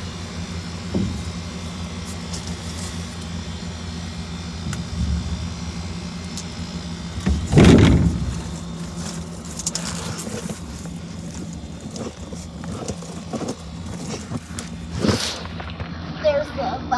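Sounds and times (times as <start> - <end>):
air conditioner compressor hum: 0.0 - 16.9.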